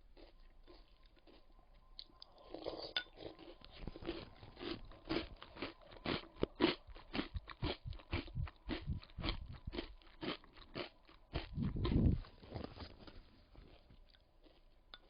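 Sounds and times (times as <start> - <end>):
chewing crunchy granola: 0.0 - 15.0.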